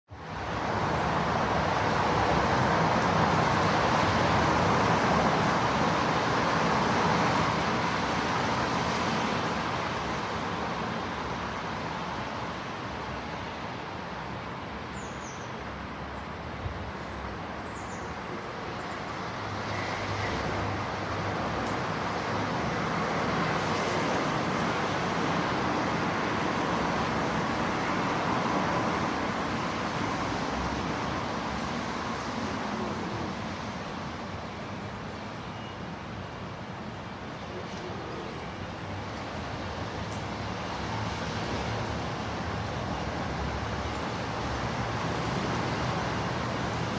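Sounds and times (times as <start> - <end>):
passing vehicles: 0.1 - 46.9
light rain: 0.2 - 46.9.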